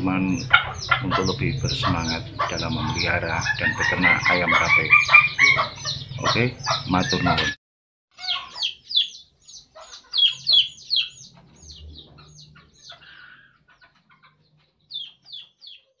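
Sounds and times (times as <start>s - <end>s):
chickens chirping: 0.0s - 16.0s.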